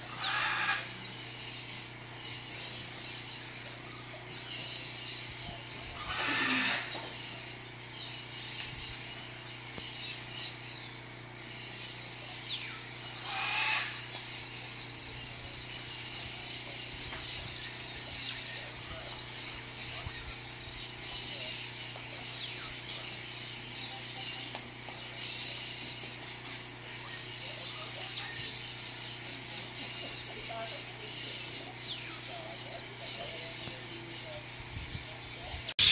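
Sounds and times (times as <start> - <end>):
bird calling: 0.0 - 35.9
steady background hum: 0.0 - 35.9.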